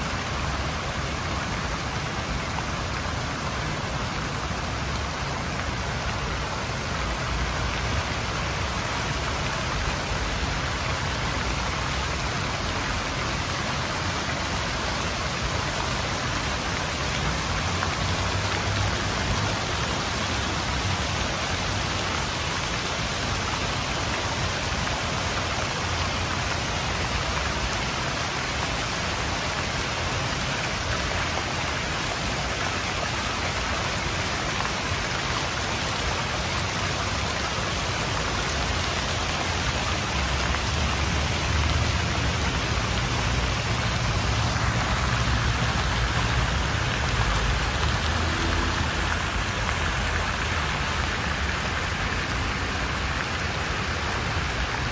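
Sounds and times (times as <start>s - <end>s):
fountain water splashing: 0.0s - 54.9s.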